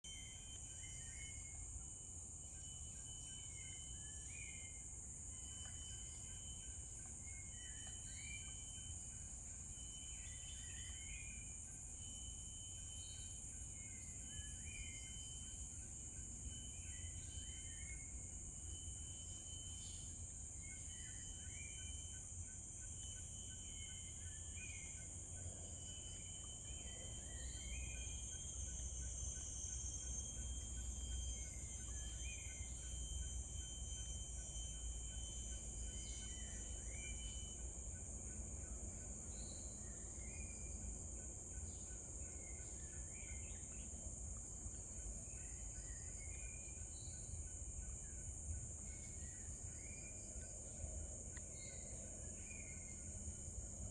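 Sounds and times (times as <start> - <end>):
high-pitched insect chorus: 0.0 - 53.9.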